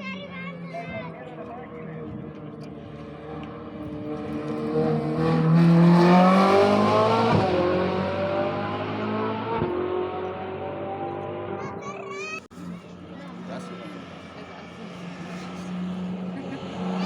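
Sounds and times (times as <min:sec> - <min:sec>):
rally car driving past: 0:00.9 - 0:11.8, 0:12.6 - 0:17.0.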